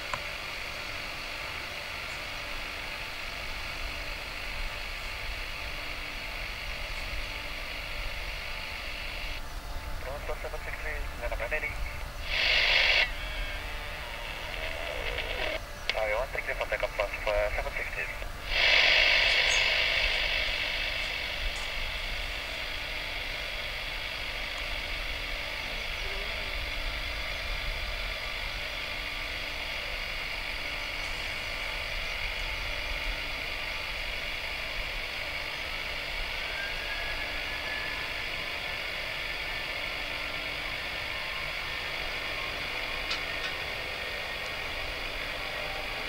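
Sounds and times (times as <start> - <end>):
distant jet engines hissing: 0.0 - 46.0
faint rising whine: 0.0 - 46.0.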